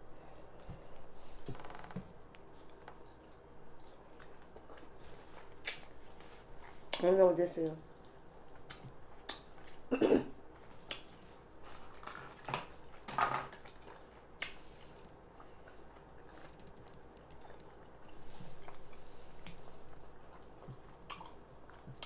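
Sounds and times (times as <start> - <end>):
chewing and lip smacking: 2.4 - 7.0, 7.8 - 9.9, 10.7 - 22.0.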